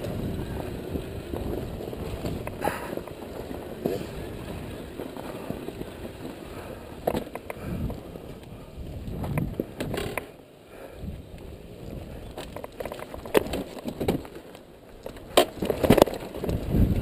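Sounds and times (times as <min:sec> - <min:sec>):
dirt bike rattling: 0:00.0 - 0:10.4, 0:11.6 - 0:17.0.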